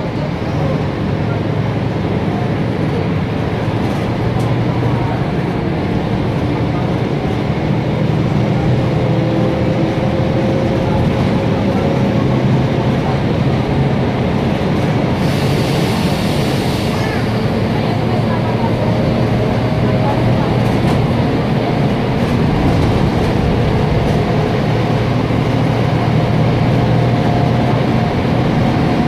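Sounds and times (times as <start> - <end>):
diesel bus engine running: 0.0 - 29.0.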